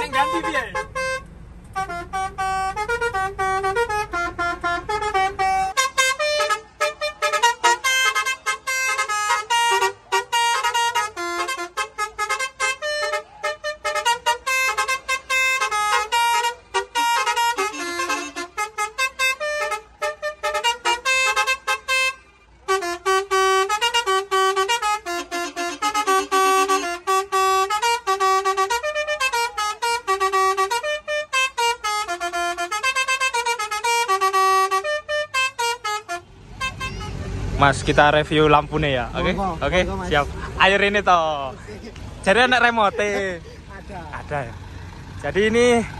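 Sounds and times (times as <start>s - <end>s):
musical truck horn melody: 0.0s - 45.9s.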